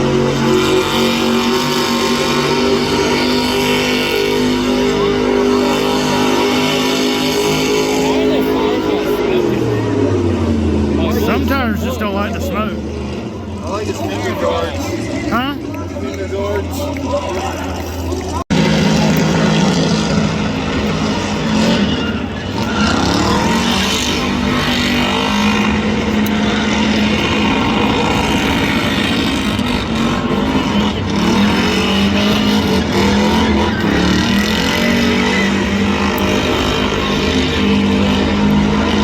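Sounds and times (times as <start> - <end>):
car engine revving high: 0.0 - 39.0.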